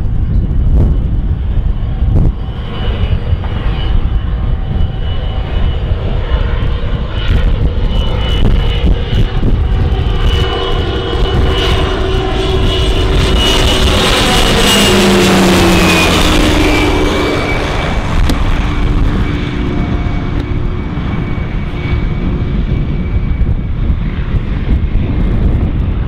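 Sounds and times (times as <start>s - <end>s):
turboprop plane droning overhead: 0.0s - 26.0s.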